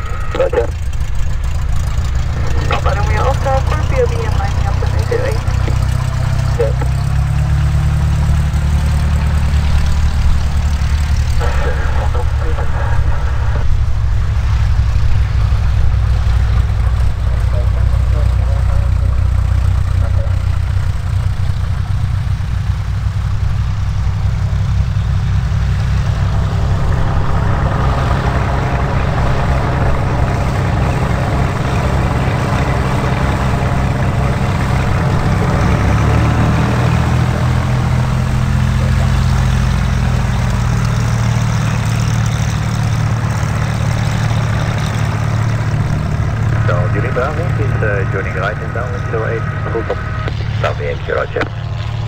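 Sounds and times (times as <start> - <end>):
propeller plane engines droning: 0.0 - 52.0.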